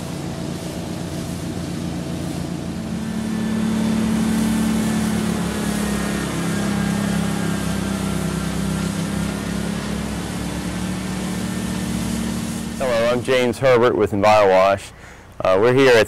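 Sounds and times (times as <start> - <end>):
steady hiss: 0.0 - 15.8
engine running steadily: 0.0 - 16.0.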